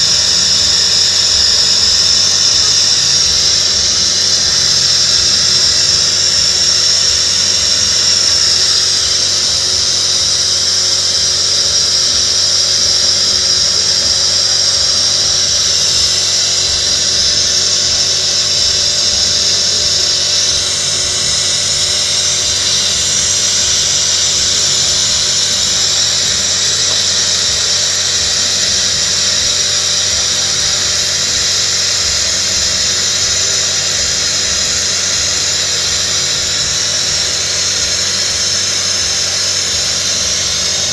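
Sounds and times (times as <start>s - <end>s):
high-pitched whine and hiss: 0.0s - 40.9s.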